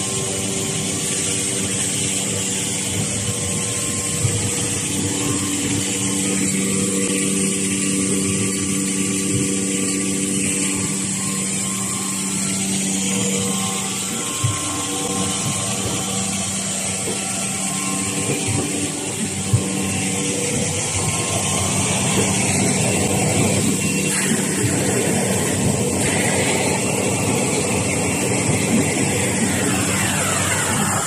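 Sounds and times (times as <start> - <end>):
factory machinery humming: 0.0 - 31.0.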